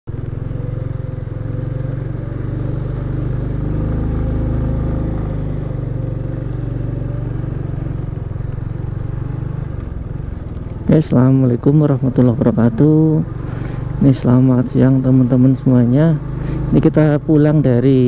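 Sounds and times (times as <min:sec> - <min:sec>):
motorcycle engine running: 0:00.1 - 0:18.0.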